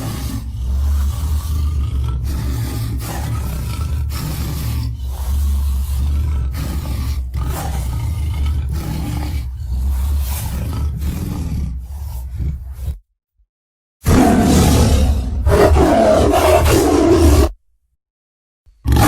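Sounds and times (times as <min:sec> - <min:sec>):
deep rumbling roars and growls: 0:00.0 - 0:13.0, 0:14.0 - 0:17.6, 0:18.8 - 0:19.0.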